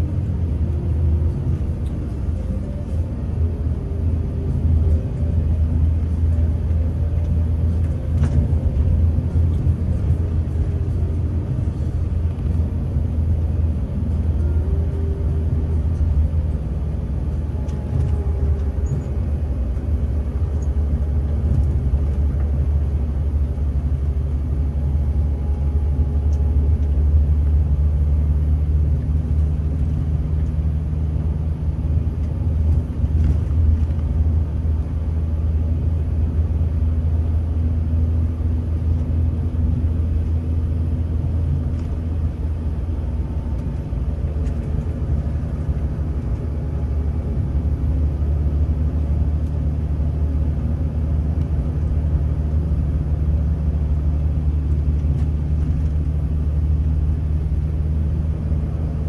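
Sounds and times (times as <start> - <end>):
coach diesel engine drone: 0.0 - 59.0
tyre and road rumble: 0.0 - 59.0.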